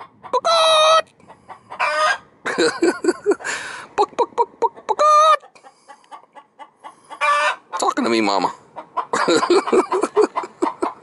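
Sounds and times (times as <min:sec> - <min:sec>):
chicken squawking: 0:00.0 - 0:02.3, 0:03.4 - 0:07.9, 0:08.7 - 0:11.0
chicken clucking: 0:00.0 - 0:11.0.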